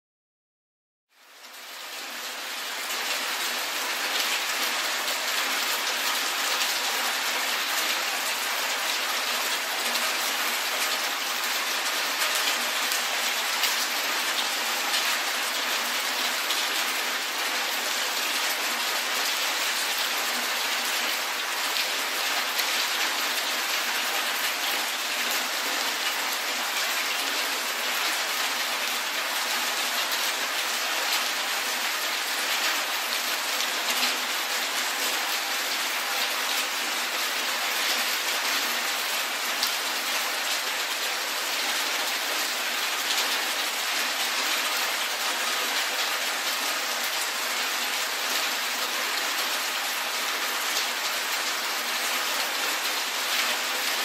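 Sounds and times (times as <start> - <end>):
rain on a paved street: 1.1 - 54.0.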